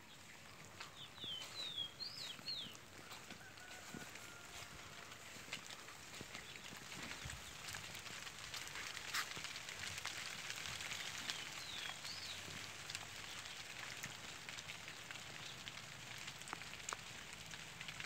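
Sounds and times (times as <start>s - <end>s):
rain on grass and leaves: 0.0s - 18.0s.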